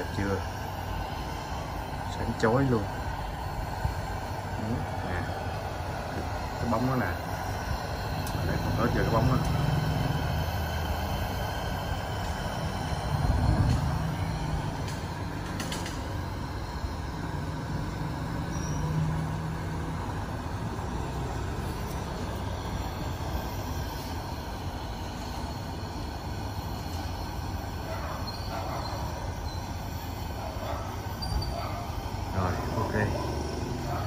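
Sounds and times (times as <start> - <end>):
kerosene lantern burner hissing: 0.0 - 34.0.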